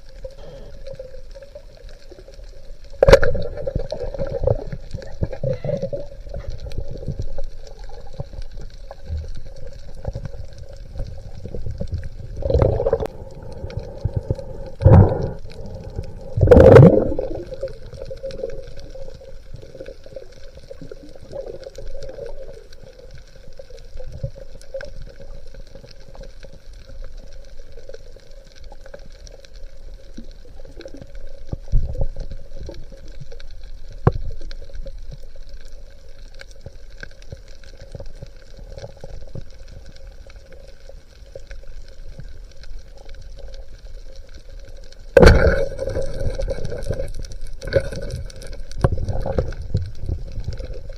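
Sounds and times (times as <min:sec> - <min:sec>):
faint steady hum: 0:00.0 - 0:50.9
underwater bubbling and gushing: 0:00.0 - 0:50.9.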